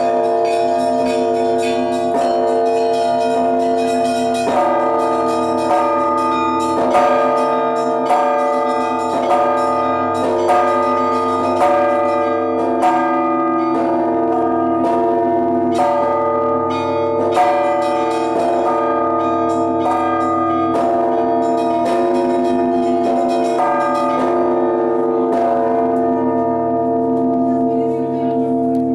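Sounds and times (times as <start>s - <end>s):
church bells pealing: 0.0s - 28.9s.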